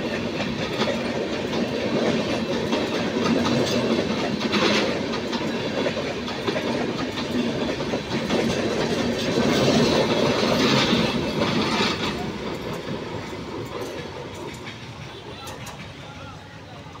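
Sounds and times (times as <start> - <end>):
train wheels clattering on track: 0.0 - 17.0.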